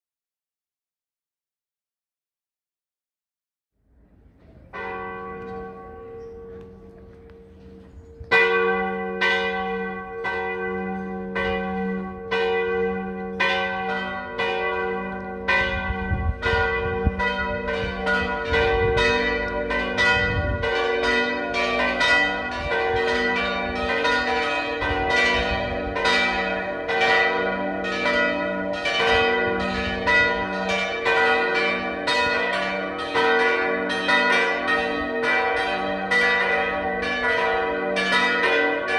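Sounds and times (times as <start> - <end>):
church bells pealing: 4.5 - 38.9.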